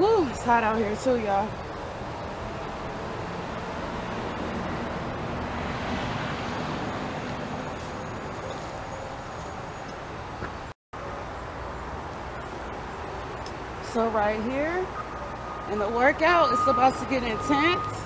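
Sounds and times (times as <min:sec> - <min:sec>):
distant road traffic: 0:00.0 - 0:18.0.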